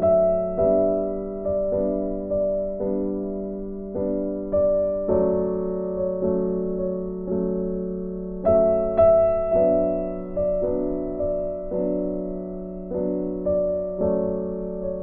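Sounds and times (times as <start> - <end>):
soft slow piano chords: 0.0 - 15.0.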